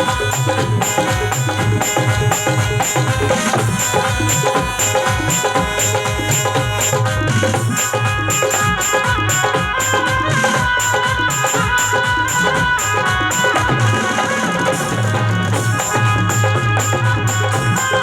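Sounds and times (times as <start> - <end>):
bright ticking percussion: 0.0 - 18.0
devotional band music over pa: 0.0 - 18.0
hand drums beating fast: 0.0 - 18.0
sustained melody line: 0.0 - 18.0.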